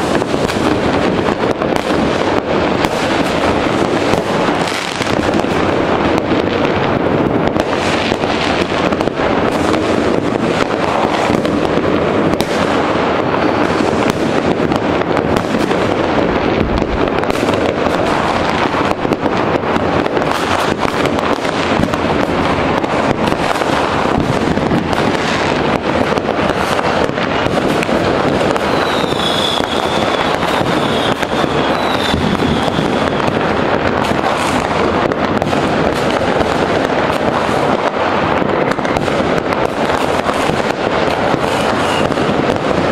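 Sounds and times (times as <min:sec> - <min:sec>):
fireworks crackling and banging: 0:00.0 - 0:42.9.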